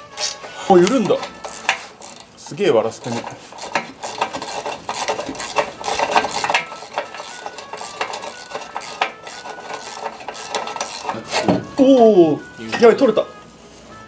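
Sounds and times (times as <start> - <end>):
wrench clicking and scraping on bolt: 0.0 - 11.6.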